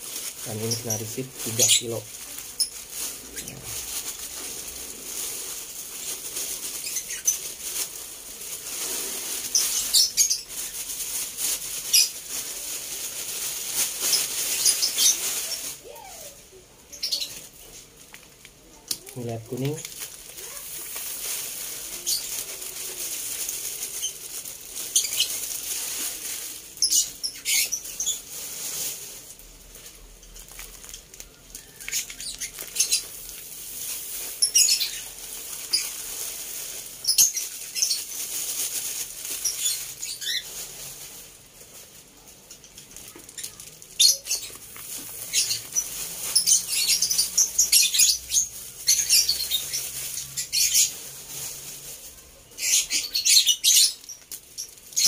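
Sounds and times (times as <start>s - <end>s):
plastic bag crinkling: 0.0s - 55.0s
seeds pouring into a basin: 0.0s - 55.0s.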